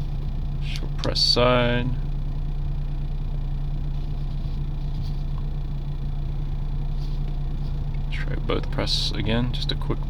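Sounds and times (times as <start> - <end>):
low-pitched hum: 0.0 - 10.0
rumbling background noise: 0.0 - 10.0.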